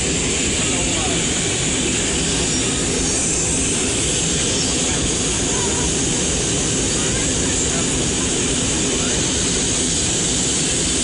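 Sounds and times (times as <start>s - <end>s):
airliner engines roaring in cabin: 0.0s - 11.0s.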